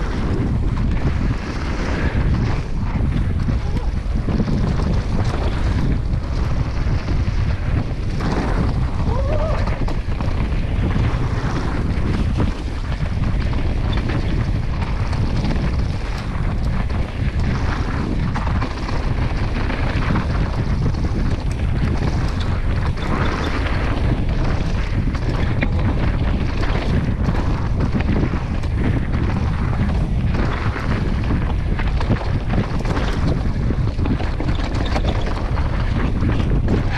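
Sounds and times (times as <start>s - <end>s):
bike knocking over bumps: 0.0s - 36.9s
tyres rolling on dirt trail: 0.0s - 36.9s
wind rushing over microphone: 0.0s - 36.9s.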